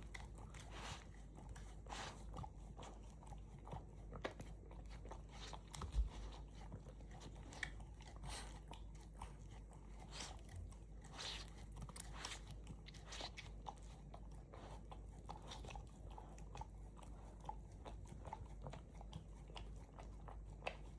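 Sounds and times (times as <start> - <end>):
puppy licking and chewing: 0.0 - 20.9.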